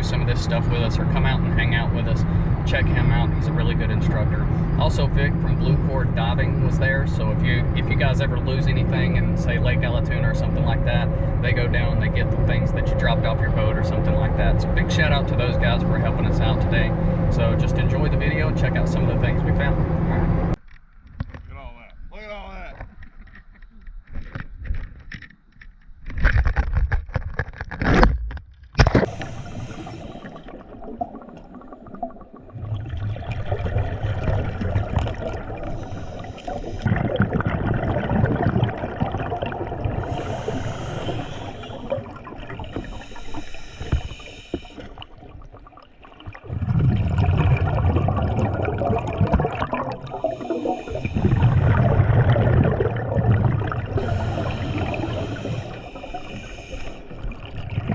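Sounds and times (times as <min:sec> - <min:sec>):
water gurgling and bubbling: 0:00.0 - 0:20.6, 0:28.8 - 0:57.9.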